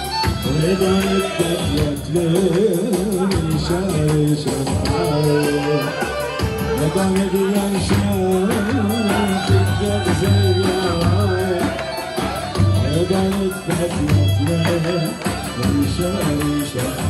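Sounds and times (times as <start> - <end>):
bass line: 0.0 - 17.0
drum beat: 0.0 - 17.0
person singing: 0.0 - 17.0.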